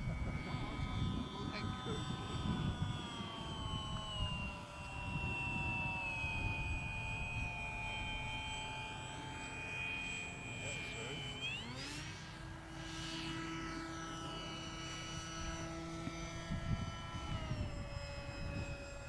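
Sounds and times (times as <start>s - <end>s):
model plane propeller droning: 0.0s - 19.0s.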